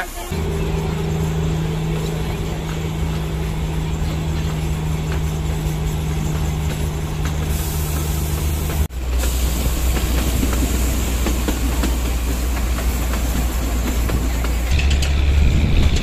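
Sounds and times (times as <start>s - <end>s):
rumble of moving coaches: 0.0s - 16.0s
train engine drone: 0.0s - 16.0s.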